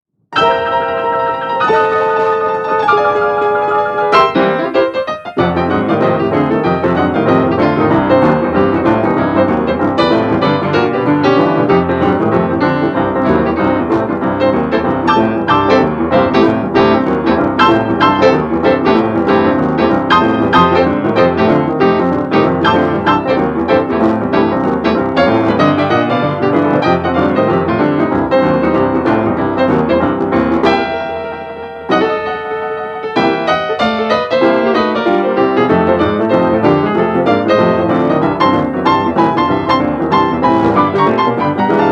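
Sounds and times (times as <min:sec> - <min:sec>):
piano music: 0:00.2 - 0:41.9.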